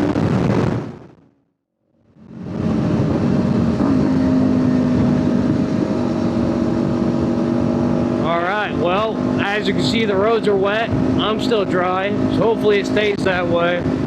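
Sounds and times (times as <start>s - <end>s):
wind noise on microphone: 0.0s - 1.2s, 2.1s - 14.0s
motorcycle engine cruising: 1.9s - 14.0s.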